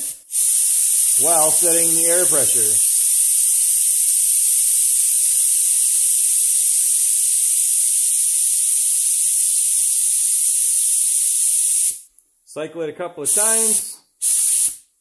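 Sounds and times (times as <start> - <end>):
spray gun hissing compressed air: 0.0 - 12.0, 13.3 - 14.8.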